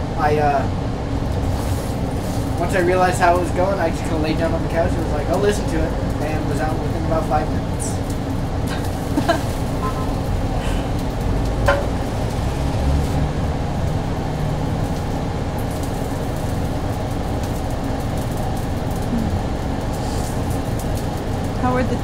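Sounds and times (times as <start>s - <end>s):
kitchen ventilation rumble: 0.0s - 22.0s.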